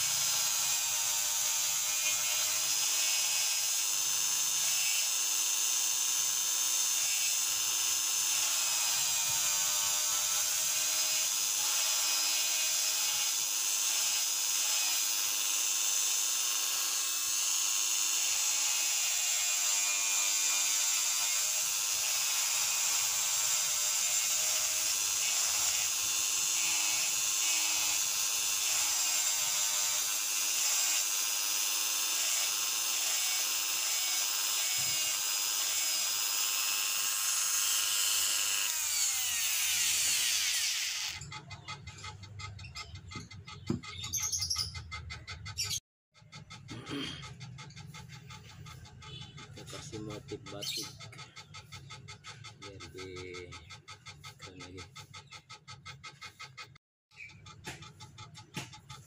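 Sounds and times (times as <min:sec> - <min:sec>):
rotary tool carving wood: 0:00.0 - 0:59.0.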